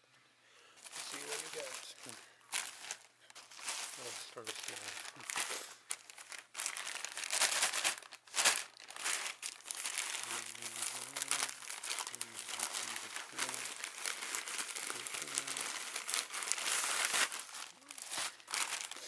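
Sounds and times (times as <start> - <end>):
packaging crinkling and rustling: 0.8 - 19.0
packaging tearing: 0.8 - 19.0
sharp crackle: 0.8 - 19.0.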